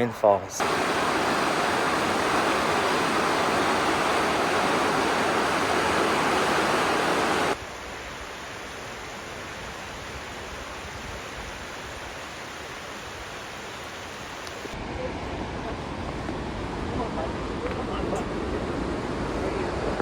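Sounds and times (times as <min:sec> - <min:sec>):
falling and flowing water: 0:00.6 - 0:20.0.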